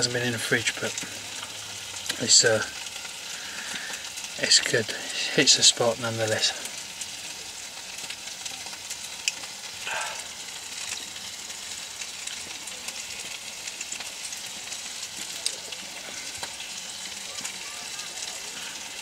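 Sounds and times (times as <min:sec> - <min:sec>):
meatballs sizzling in a pan: 0:00.0 - 0:19.0
sharp crackling pops: 0:00.0 - 0:19.0.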